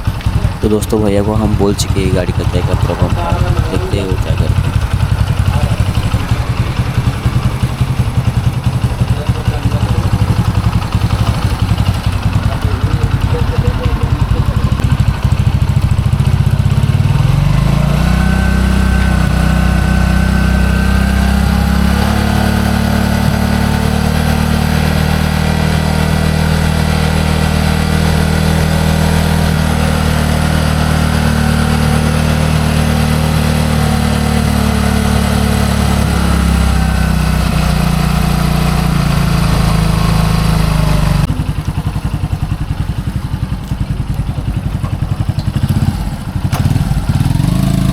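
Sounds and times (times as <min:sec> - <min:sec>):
single-cylinder engine running: 0:00.0 - 0:47.9.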